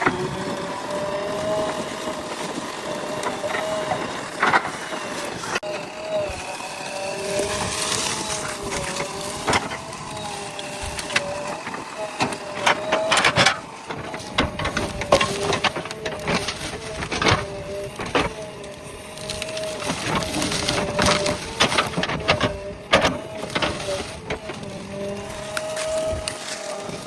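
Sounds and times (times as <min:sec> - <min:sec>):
backhoe engine and hydraulics whine: 0:00.0 - 0:27.0
wood cracking and knocking: 0:03.1 - 0:27.0.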